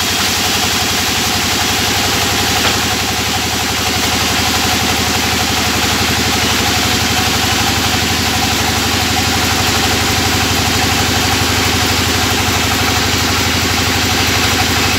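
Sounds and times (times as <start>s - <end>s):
sawmill engine running: 0.0s - 14.9s.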